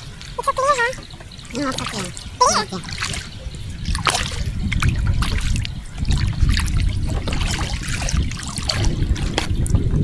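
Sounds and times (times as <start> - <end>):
paddle splashing water: 0.0 - 10.0.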